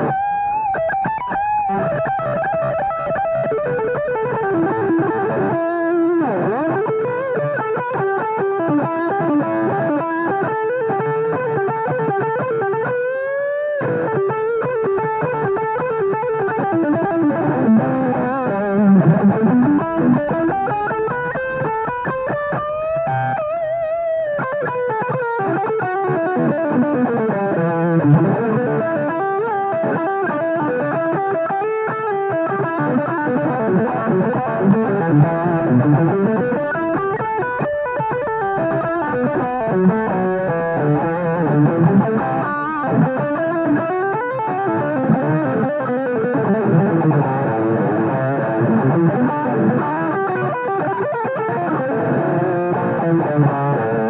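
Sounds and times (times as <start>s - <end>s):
electric guitar lead line: 0.0s - 54.0s.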